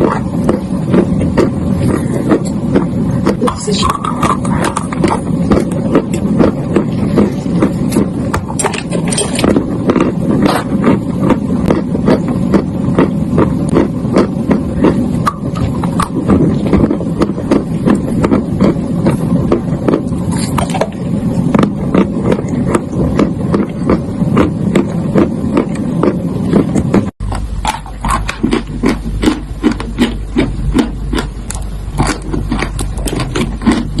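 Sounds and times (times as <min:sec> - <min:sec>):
chalk crunching being chewed: 0:00.0 - 0:34.0
low hum: 0:00.0 - 0:34.0.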